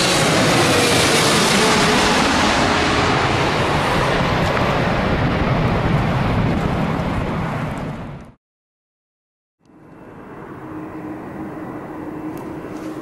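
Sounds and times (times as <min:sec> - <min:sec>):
jet engine roar: 0:00.0 - 0:08.4, 0:09.6 - 0:13.0.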